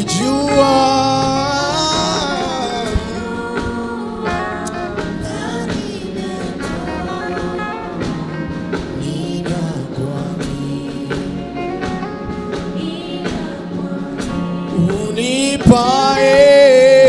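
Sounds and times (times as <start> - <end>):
person singing a wavering note: 0.0 - 15.4
gospel band with guitar: 0.0 - 17.0.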